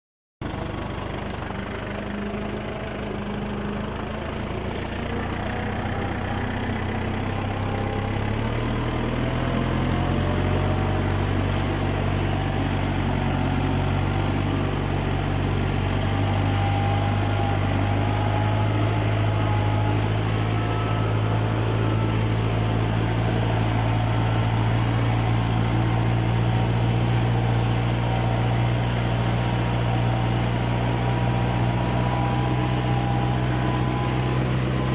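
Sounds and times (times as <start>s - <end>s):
tractor engine running: 0.4s - 34.9s.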